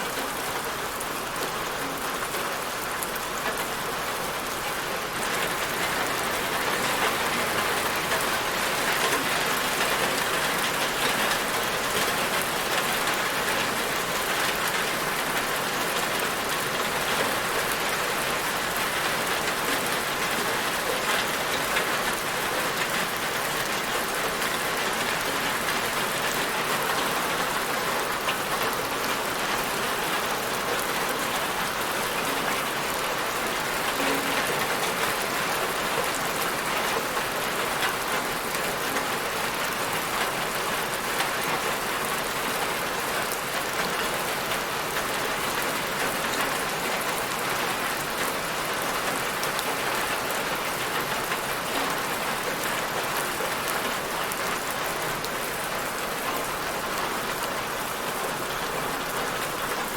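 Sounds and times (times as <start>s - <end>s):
rain falling on surface: 0.0s - 59.9s.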